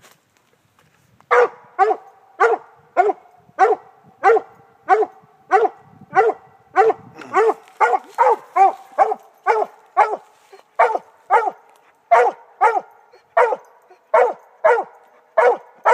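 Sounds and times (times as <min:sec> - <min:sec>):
dog barking: 0:01.3 - 0:15.9.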